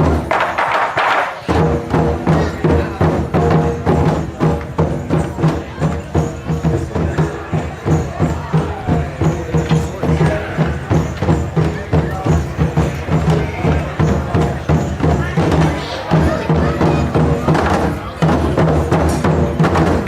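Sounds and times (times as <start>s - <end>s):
taiko drums playing: 0.0s - 20.0s.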